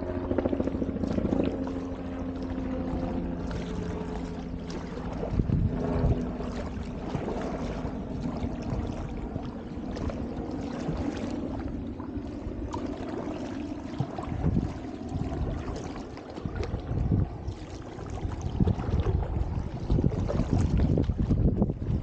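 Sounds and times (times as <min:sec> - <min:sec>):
paddle strokes splashing in water: 0:01.0 - 0:22.0
water trickling off paddle blades: 0:01.0 - 0:22.0.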